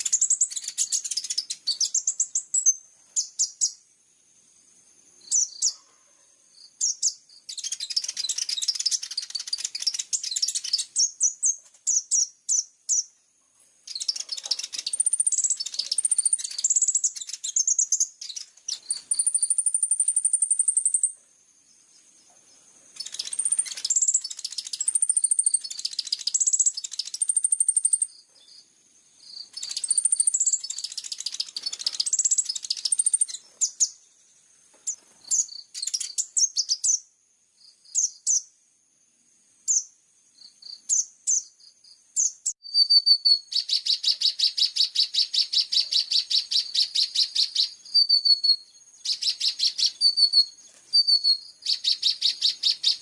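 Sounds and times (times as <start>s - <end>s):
small songbird chirping and trilling: 0.0s - 5.9s, 6.5s - 38.6s, 39.6s - 53.0s.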